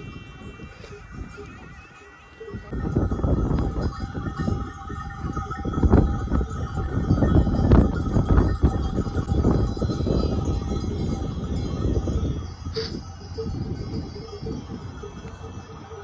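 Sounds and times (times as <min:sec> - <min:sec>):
livestock bells clanking: 0:00.0 - 0:16.0.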